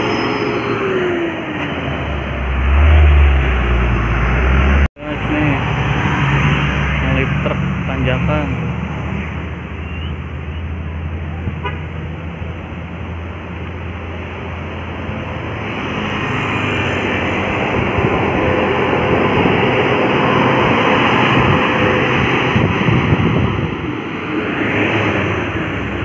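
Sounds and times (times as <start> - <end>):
heavy diesel engine labouring: 0.0 - 26.0.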